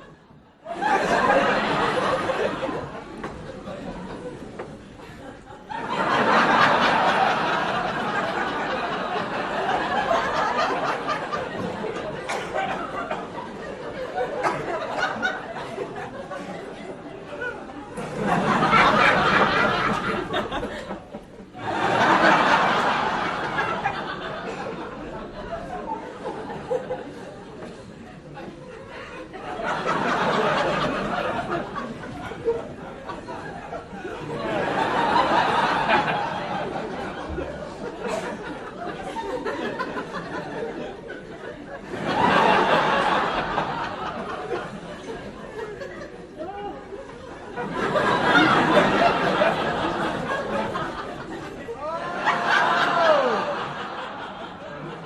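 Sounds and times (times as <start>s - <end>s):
audience laughing: 0.0s - 55.0s
murmur of chatter: 0.0s - 55.0s.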